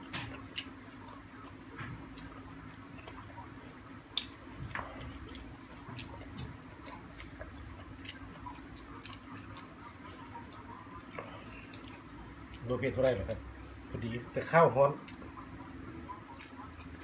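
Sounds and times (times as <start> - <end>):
person chewing salad: 0.0 - 14.0, 15.0 - 17.0
low steady hum: 0.0 - 17.0
lip smacks: 0.1 - 12.7, 15.0 - 17.0.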